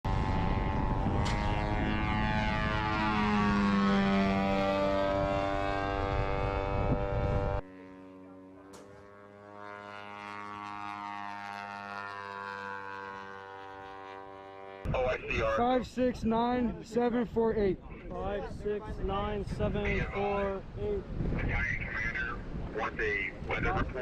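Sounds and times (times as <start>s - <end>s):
propeller aircraft engine droning: 0.0s - 24.0s.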